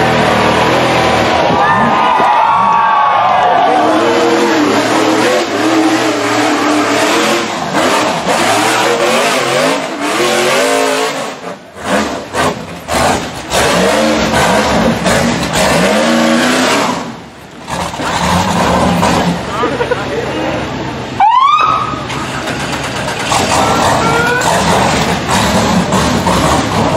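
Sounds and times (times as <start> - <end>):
buggy engine revving: 0.0 - 21.2, 21.8 - 26.9.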